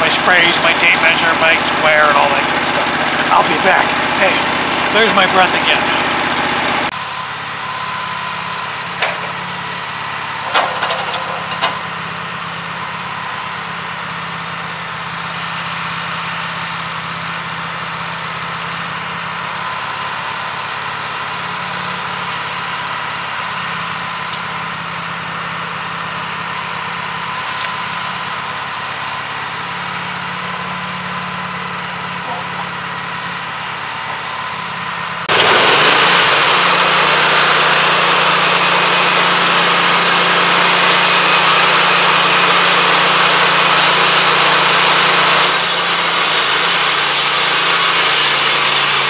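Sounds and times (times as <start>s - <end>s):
sawmill engine idling: 0.0s - 49.0s.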